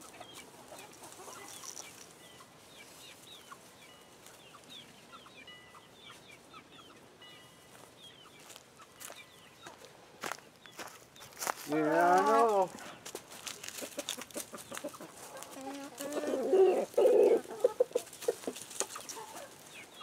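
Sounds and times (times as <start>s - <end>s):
chickens chirping: 0.0s - 20.0s.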